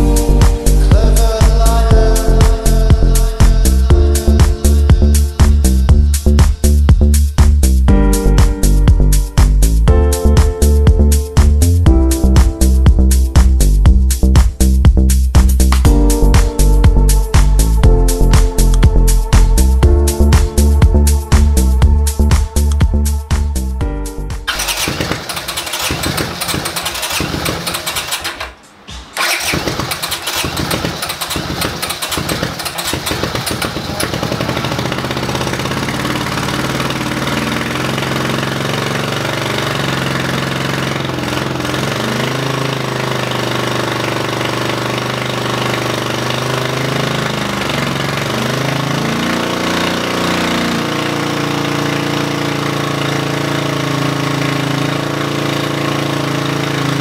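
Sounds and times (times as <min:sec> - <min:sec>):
motorcycle engine starting and revving: 0:00.0 - 0:23.1, 0:24.4 - 0:57.0.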